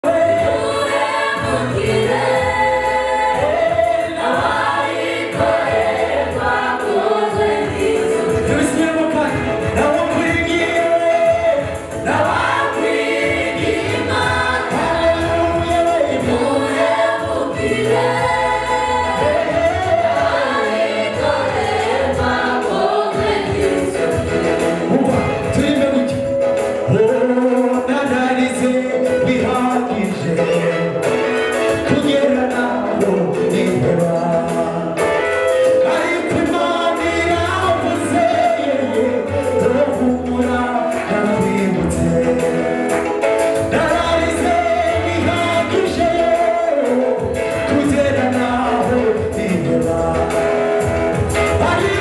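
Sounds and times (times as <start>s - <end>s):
choir singing gospel song: 0.0s - 52.0s.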